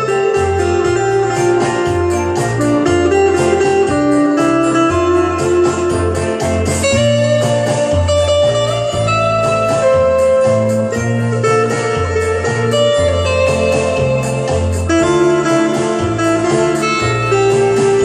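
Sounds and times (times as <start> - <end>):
clean electric guitar melody: 0.0 - 18.0
pulsing bass line: 0.0 - 18.0.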